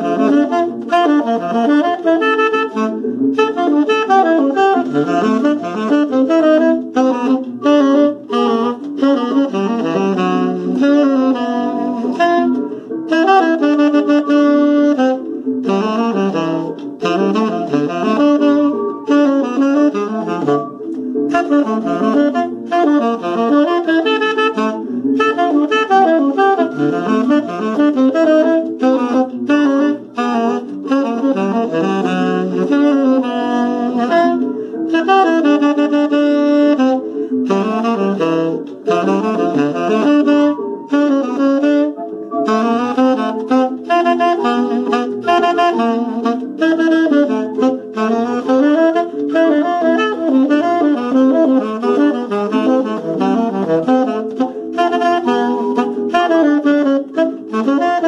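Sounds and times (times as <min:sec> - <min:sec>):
tenor saxophone melody: 0:00.0 - 0:58.0.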